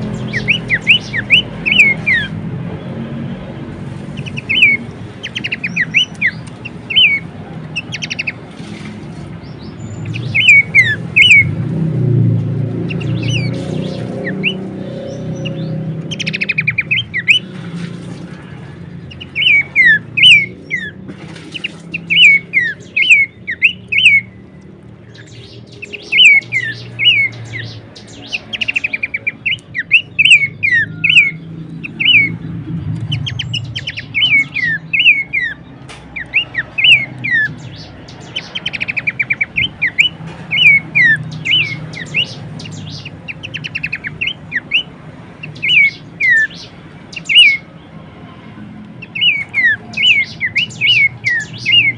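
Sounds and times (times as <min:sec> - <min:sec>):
bird chattering trills: 0:00.0 - 0:02.4, 0:04.0 - 0:11.7, 0:12.6 - 0:47.7, 0:49.0 - 0:51.9
bird whistled calls: 0:00.0 - 0:02.4, 0:04.1 - 0:08.4, 0:09.4 - 0:11.6, 0:12.8 - 0:17.6, 0:19.0 - 0:24.4, 0:25.1 - 0:32.4, 0:33.1 - 0:35.6, 0:36.2 - 0:47.7, 0:49.0 - 0:51.9.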